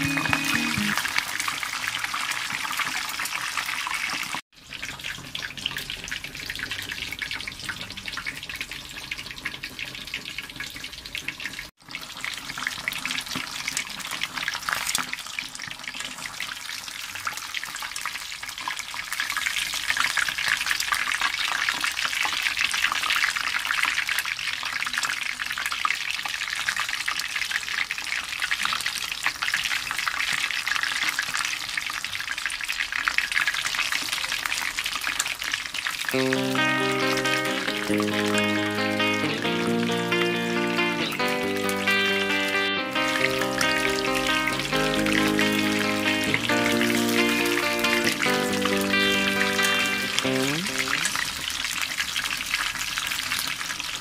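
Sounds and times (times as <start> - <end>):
chicken sizzling in hot oil: 0.0 - 36.6, 42.9 - 54.0.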